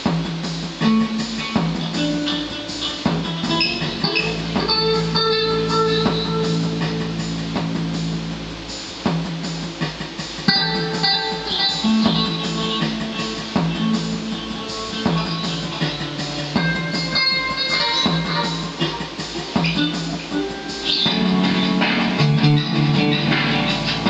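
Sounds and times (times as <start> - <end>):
electric guitar with delay: 0.8 - 9.5, 10.4 - 24.0.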